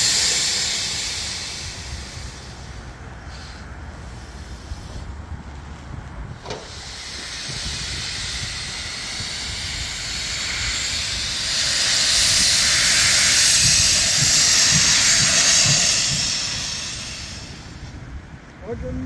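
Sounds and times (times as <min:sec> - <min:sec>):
steam locomotive hissing steam: 0:00.0 - 0:18.8
low locomotive beat: 0:00.0 - 0:19.0.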